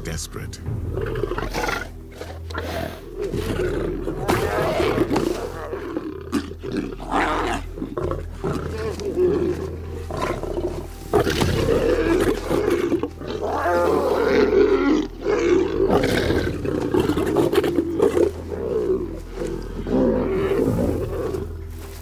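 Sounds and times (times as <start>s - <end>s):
lions snarling and growling: 0.9s - 22.0s.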